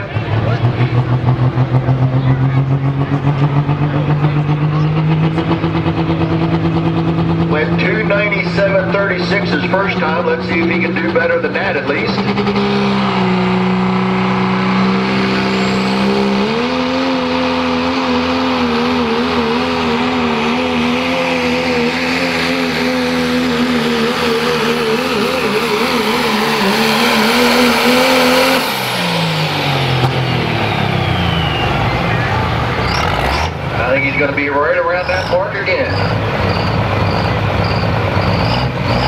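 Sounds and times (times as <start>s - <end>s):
diesel pickup engine under load: 0.0s - 39.0s.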